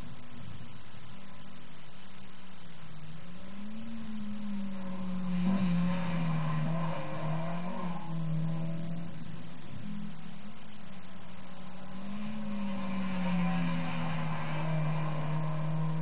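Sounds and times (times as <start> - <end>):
car engine revving high: 2.9 - 16.0.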